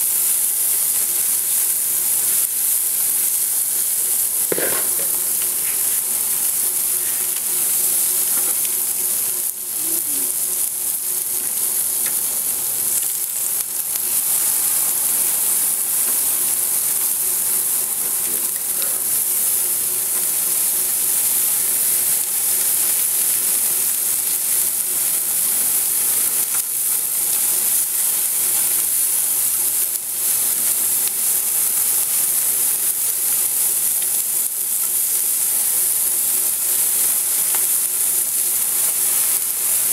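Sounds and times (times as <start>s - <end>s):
vegetables sizzling in a wok: 0.0s - 39.9s.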